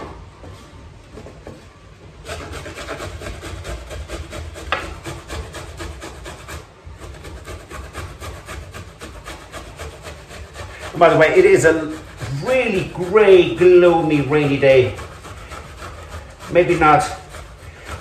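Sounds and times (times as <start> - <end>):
ginger rasping on metal grater: 2.2 - 18.0.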